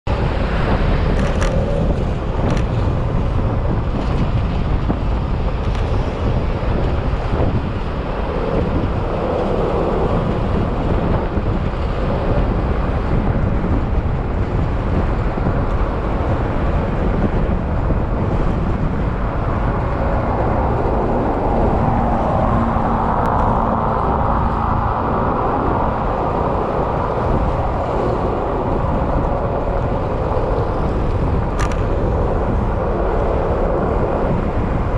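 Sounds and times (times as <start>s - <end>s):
wind and road noise: 0.0s - 34.9s.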